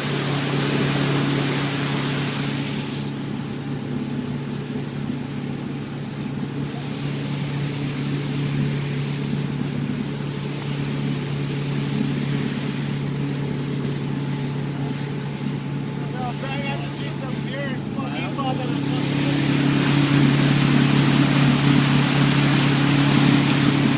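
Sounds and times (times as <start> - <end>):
motorboat engine running: 0.0 - 23.9.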